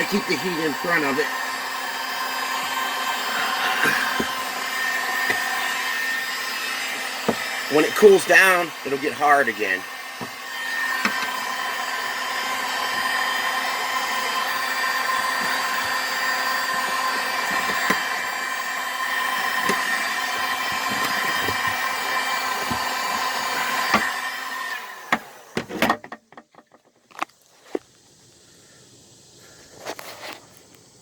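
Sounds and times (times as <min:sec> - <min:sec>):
heat gun blowing with whining fan: 0:00.0 - 0:26.0.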